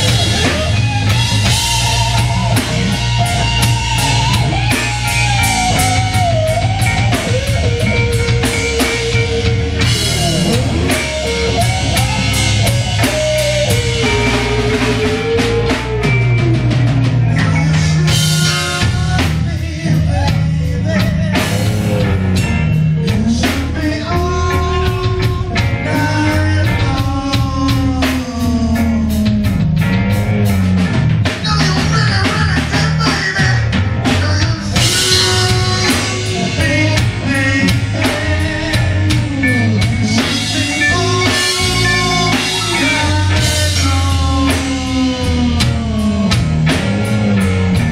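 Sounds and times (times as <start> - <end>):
bass: 0.0 - 47.9
drum kit: 0.0 - 47.9
electric guitar lead line: 0.0 - 47.9.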